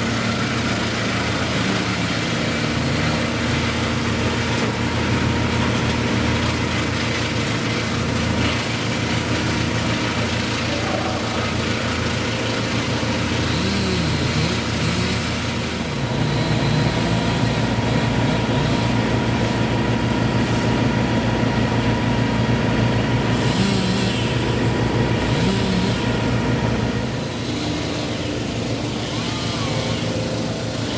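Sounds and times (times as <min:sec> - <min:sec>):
machinery engine throbbing: 0:00.0 - 0:30.9.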